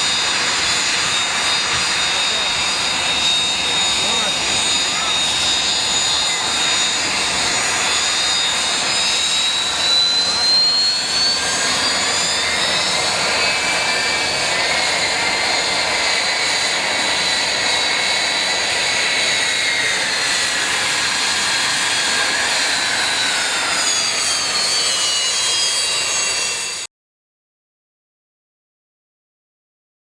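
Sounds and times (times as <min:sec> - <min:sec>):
aircraft engines whining: 0:00.0 - 0:26.9.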